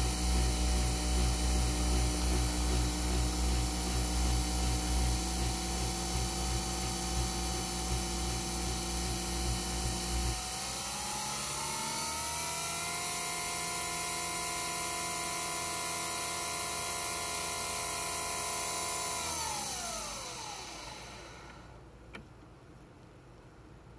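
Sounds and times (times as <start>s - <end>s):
coffee machine motor whine: 0.0s - 21.8s.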